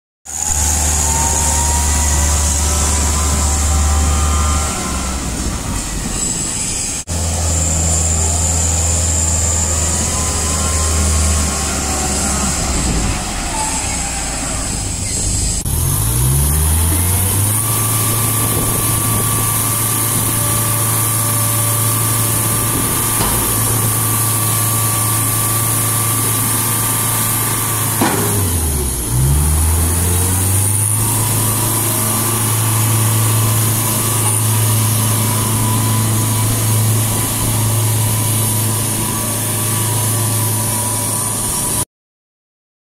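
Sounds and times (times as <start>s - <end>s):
loader engine revving: 0.3s - 41.8s.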